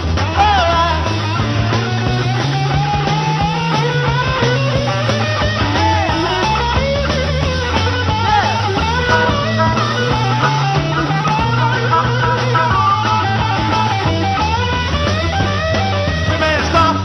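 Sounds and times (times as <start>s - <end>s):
bass guitar: 0.0s - 17.0s
drums: 0.0s - 17.0s
electric guitar lead: 0.0s - 17.0s.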